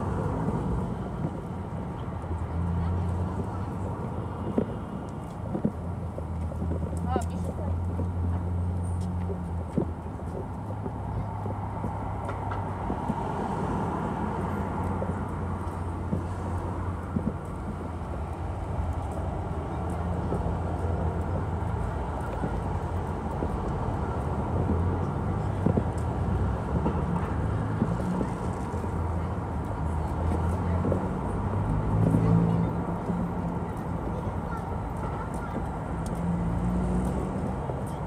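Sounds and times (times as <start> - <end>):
road traffic hum: 0.0 - 38.0.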